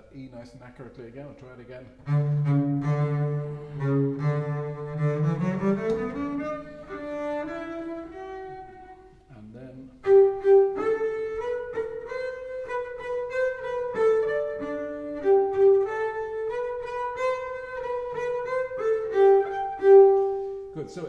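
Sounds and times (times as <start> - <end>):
bowed double bass harmonics: 1.4 - 21.0.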